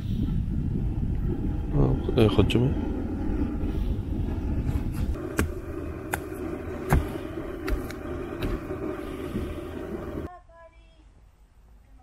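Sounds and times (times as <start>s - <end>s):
camp stove burner roaring: 0.4s - 10.3s.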